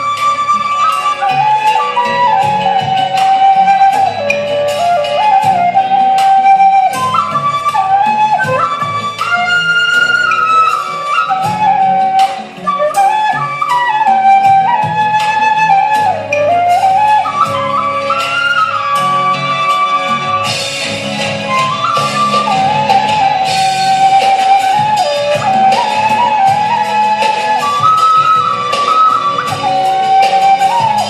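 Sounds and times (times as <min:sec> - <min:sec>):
accompaniment with steady beat: 0:00.0 - 0:31.0
bamboo flute melody: 0:00.0 - 0:31.0.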